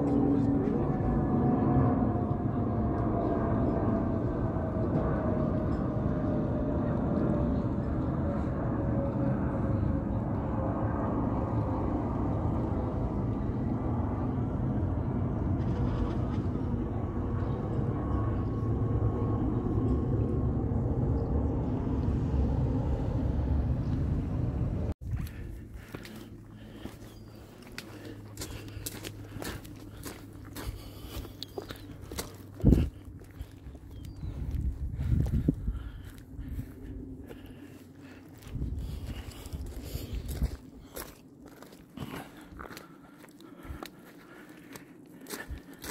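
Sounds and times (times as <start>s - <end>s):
jet airliner engine rumble: 0.0s - 45.9s
jet engine whine: 0.0s - 45.9s
propeller aircraft droning overhead: 0.0s - 45.9s.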